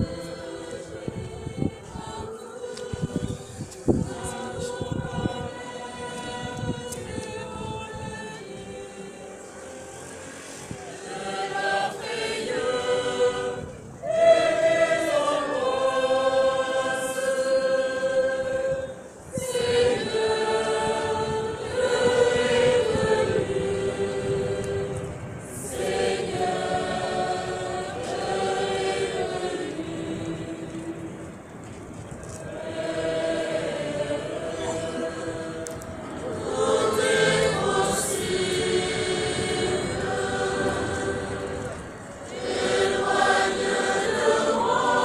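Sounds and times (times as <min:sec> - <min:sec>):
crowd singing a hymn: 0:00.0 - 0:45.0.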